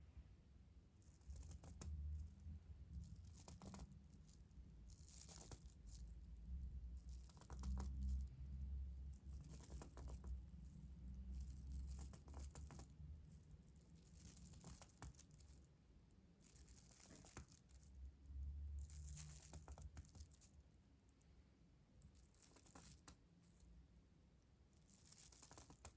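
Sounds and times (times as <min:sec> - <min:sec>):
soft crinkly rustling strokes: 0:01.0 - 0:21.2, 0:22.0 - 0:25.9.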